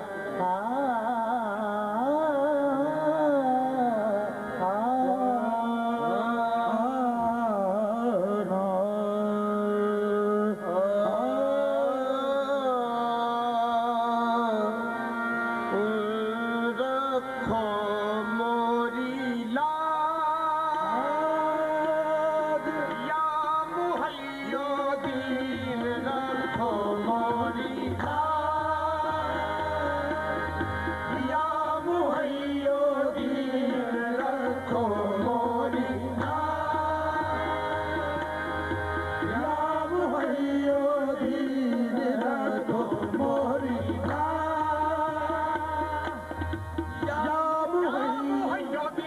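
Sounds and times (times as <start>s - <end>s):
harmoniums playing: 0.0s - 49.0s
lead voice singing: 0.0s - 49.0s
tabla: 0.0s - 49.0s.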